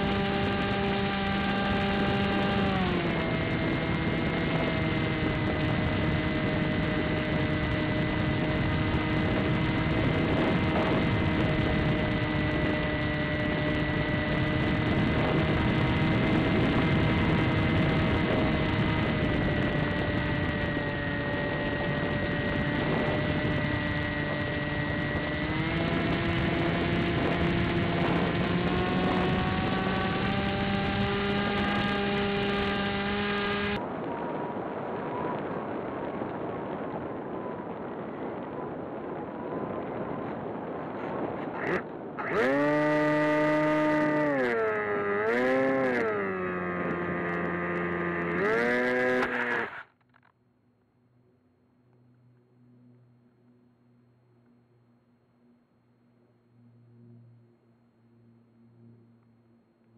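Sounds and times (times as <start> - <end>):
wind rush: 0.0 - 49.8
electric motor and propeller whine: 0.0 - 50.4, 51.6 - 59.9.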